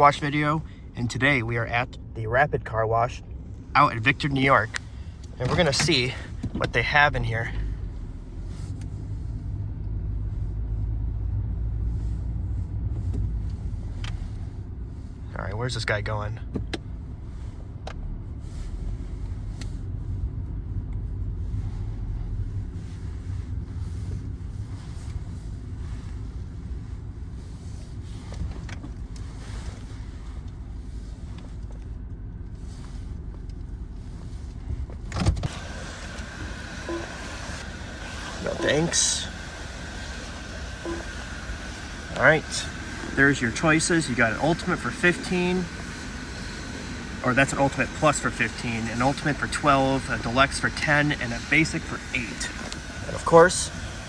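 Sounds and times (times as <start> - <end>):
car cabin low rumble: 0.0 - 54.0.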